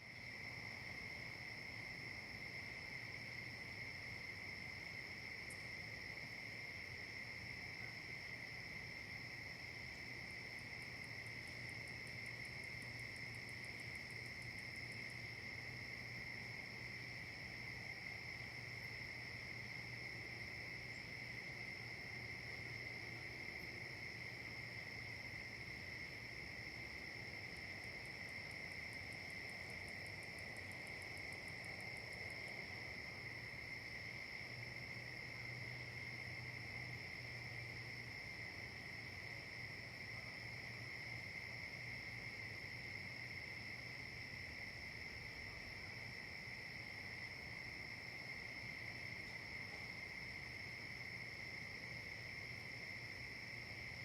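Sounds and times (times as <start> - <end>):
insect chorus trilling: 0.1 - 54.0.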